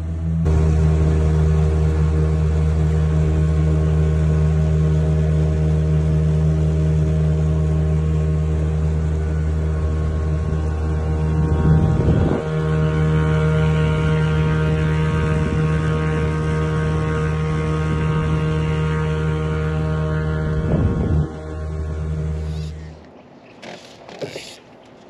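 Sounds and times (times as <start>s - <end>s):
outboard motor droning: 0.0s - 25.0s.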